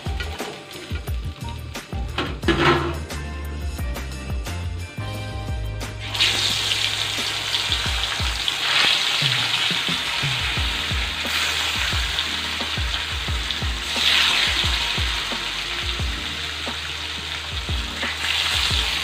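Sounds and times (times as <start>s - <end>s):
fish sizzling in hot oil: 0.0s - 3.2s, 6.0s - 19.0s.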